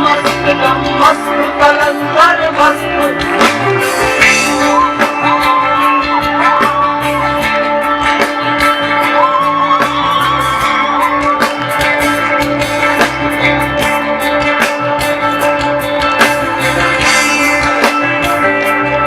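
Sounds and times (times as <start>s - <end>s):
bass: 0.0s - 19.0s
drum kit beat: 0.0s - 19.0s.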